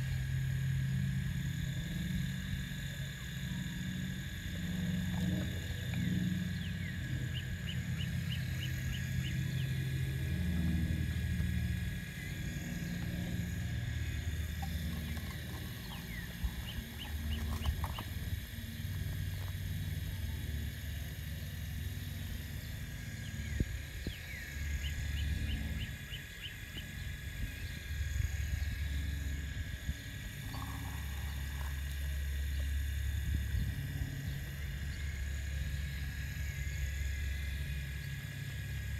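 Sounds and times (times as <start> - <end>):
high motor whine: 0.0 - 38.9
toy excavator motor drone: 0.0 - 38.9.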